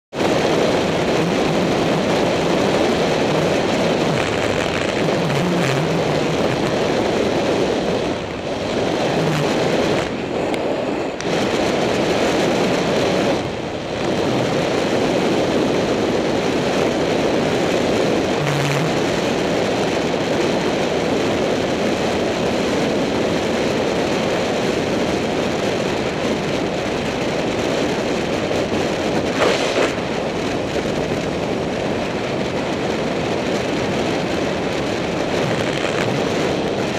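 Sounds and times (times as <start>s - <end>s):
wind rushing over microphone: 0.1s - 36.9s.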